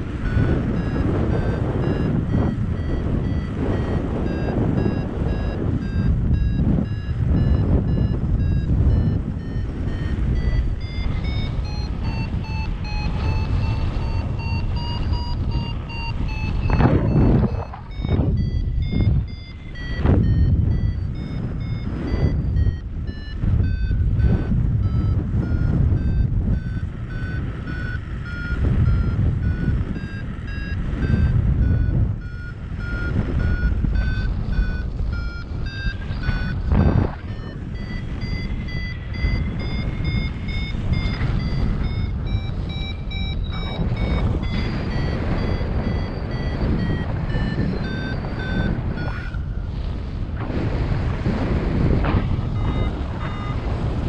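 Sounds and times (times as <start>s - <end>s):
variometer beeping: 0.0s - 54.0s
wind buffeting microphone: 0.0s - 54.0s.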